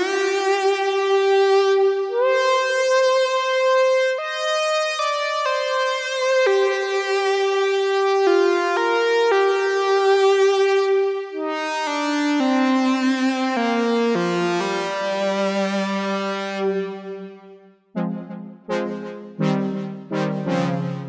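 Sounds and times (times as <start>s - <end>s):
synthesizer held chords: 0.0s - 21.0s.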